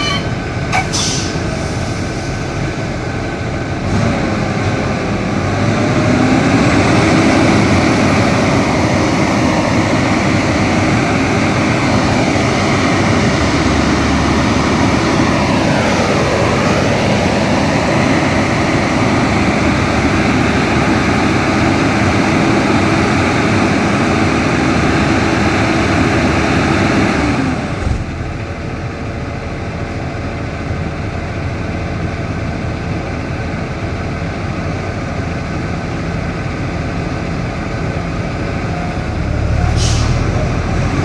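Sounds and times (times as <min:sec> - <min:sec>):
heavy machine engine running: 0:00.0 - 0:41.0.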